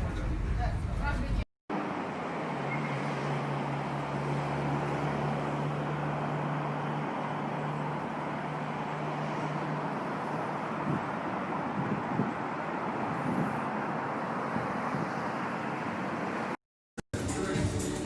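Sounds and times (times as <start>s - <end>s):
vehicle engine hum: 0.0s - 16.6s.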